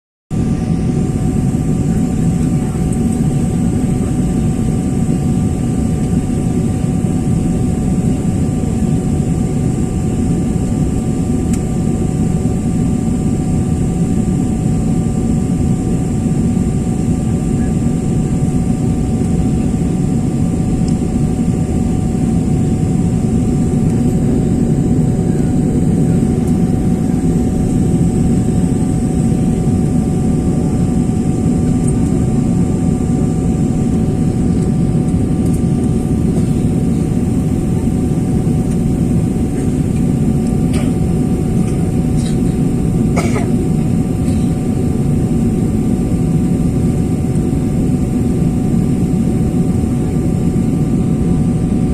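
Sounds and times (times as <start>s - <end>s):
jet airliner cabin drone: 0.3s - 51.9s.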